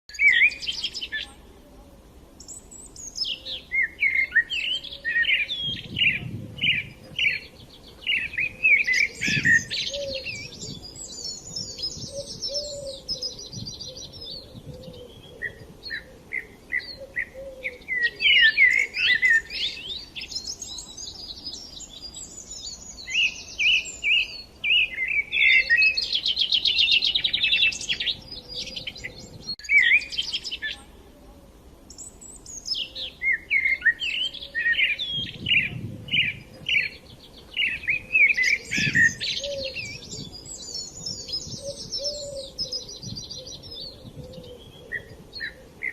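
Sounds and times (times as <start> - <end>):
songbirds singing: 0.1 - 45.9.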